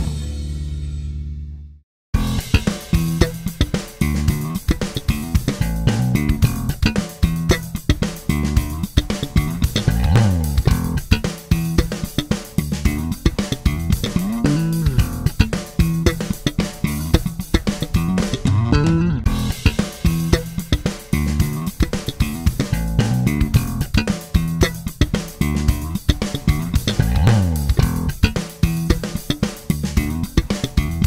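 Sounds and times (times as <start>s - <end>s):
drum kit beat: 2.2s - 31.0s
electric bass guitar: 2.2s - 31.0s.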